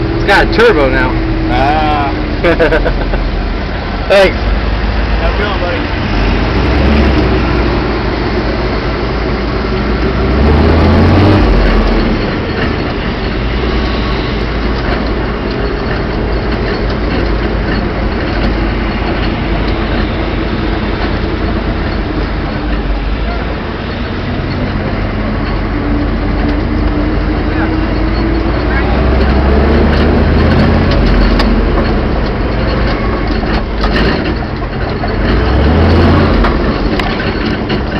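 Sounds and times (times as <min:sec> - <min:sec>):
diesel pickup engine running: 0:00.0 - 0:37.9.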